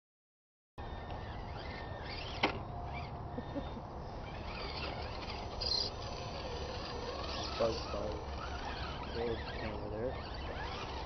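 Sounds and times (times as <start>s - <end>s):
birds chirping: 0.8s - 11.0s.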